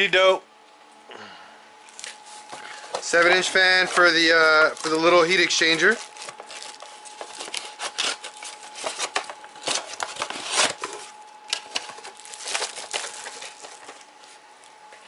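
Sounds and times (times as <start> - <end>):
cardboard and plastic crinkling: 1.9 - 14.9.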